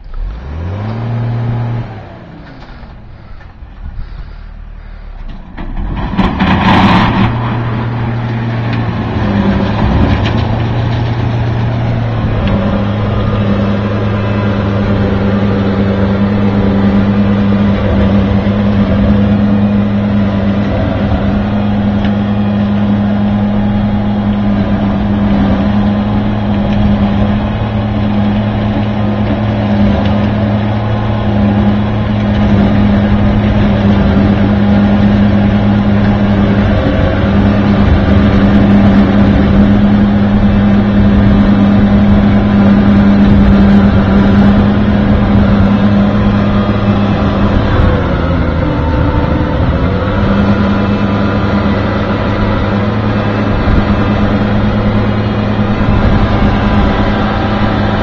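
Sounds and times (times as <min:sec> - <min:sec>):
rotor grinding stumps: 0:00.0 - 0:58.0
tractor engine running: 0:00.0 - 0:58.0.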